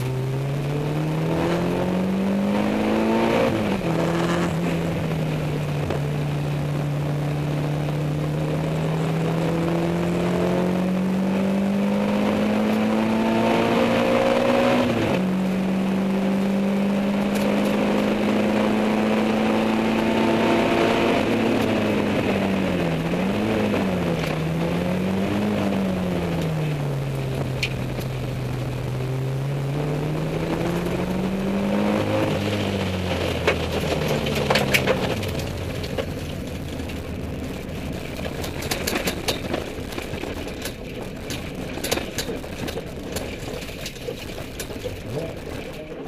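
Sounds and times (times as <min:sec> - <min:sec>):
car engine at high revs: 0:00.0 - 0:46.0.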